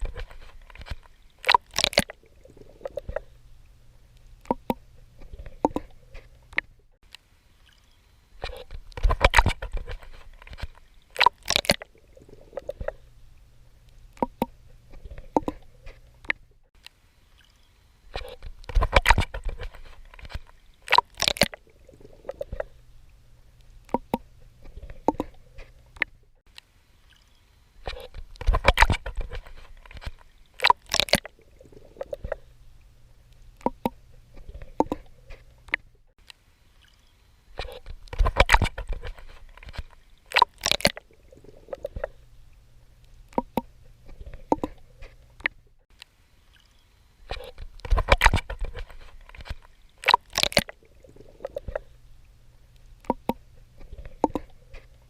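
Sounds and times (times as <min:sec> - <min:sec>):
water splashing from swimming: 0:00.0 - 0:06.7, 0:07.7 - 0:13.3, 0:13.9 - 0:16.4, 0:17.3 - 0:26.2, 0:27.0 - 0:32.6, 0:33.4 - 0:35.8, 0:36.8 - 0:45.6, 0:46.5 - 0:52.0, 0:52.8 - 0:55.0
water gurgling: 0:00.0 - 0:06.8, 0:08.4 - 0:13.2, 0:14.0 - 0:16.4, 0:18.1 - 0:22.9, 0:23.8 - 0:26.2, 0:27.8 - 0:35.8, 0:36.8 - 0:45.6, 0:46.6 - 0:55.0.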